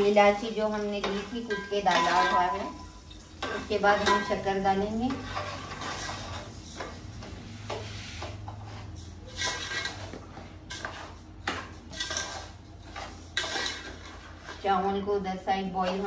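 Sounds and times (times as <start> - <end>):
metal spoon scraping a pot: 0.7 - 15.0, 15.7 - 16.0.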